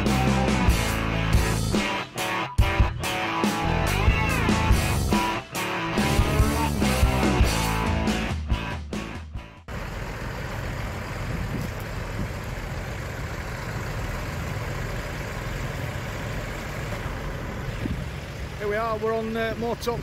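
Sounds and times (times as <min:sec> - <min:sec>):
tractor engines idling: 0:00.0 - 0:08.3, 0:09.0 - 0:20.0.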